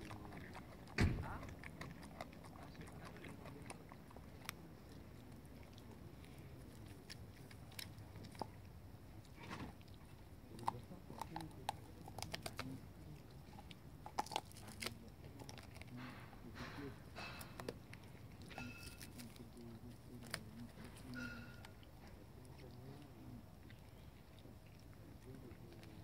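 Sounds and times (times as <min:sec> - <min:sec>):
dog chewing a bone: 0:00.0 - 0:26.0.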